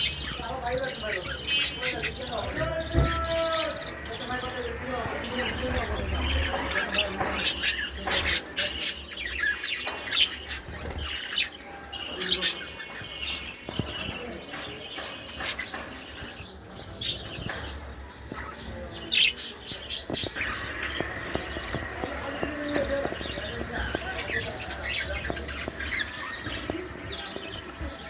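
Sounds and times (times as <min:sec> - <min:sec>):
budgerigars chirping: 0:00.0 - 0:28.0.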